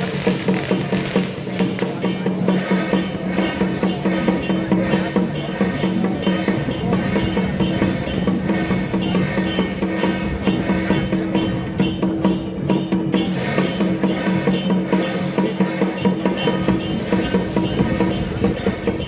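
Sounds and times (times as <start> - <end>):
rapid drum and cymbal strikes: 0.0 - 19.0.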